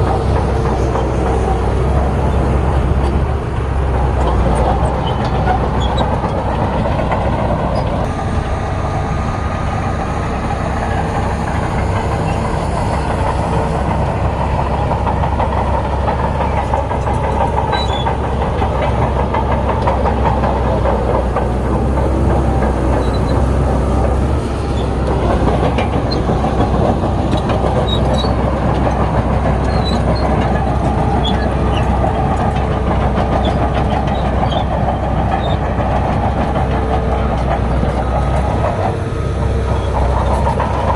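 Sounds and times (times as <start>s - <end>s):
crawler tracks clanking: 0.0s - 40.9s
diesel engine under load: 0.0s - 40.9s.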